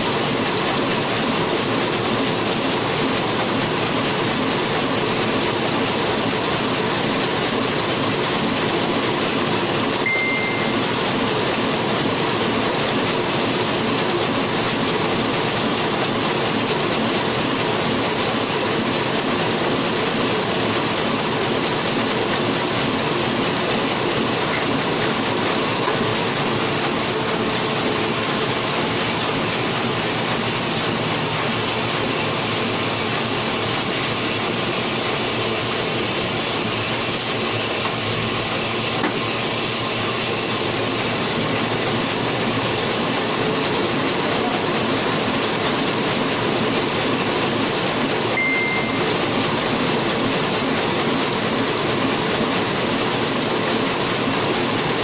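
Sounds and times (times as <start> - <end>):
printing press running: 0.0 - 55.0.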